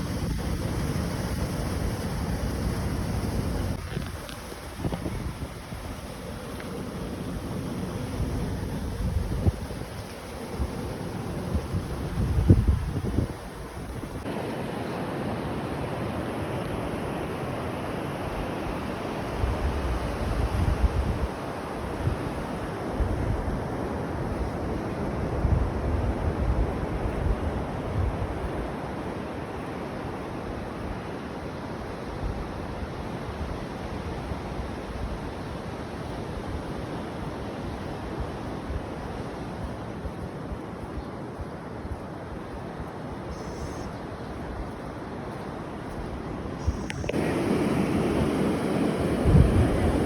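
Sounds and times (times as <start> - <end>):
wind buffeting microphone: 0.0 - 14.3, 19.3 - 28.8, 32.2 - 50.0
rushing water: 0.0 - 50.0.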